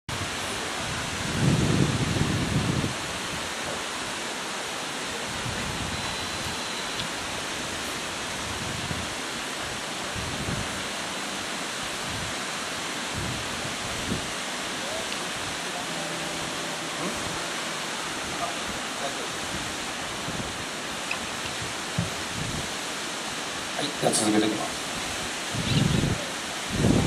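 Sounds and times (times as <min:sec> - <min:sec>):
open-air hiss: 0:00.1 - 0:27.0.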